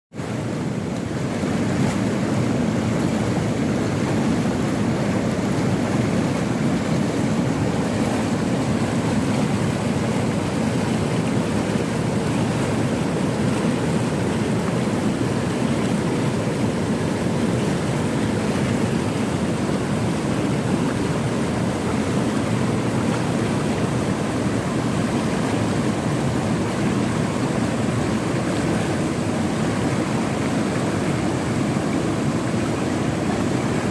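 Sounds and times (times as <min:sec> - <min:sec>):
river rushing: 0:00.2 - 0:33.9.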